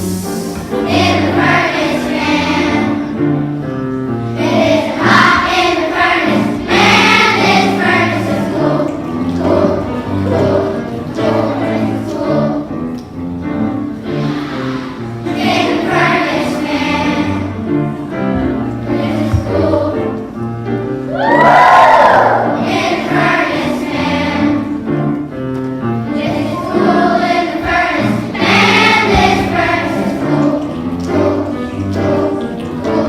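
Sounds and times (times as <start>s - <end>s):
children's choir singing: 0.0s - 33.0s.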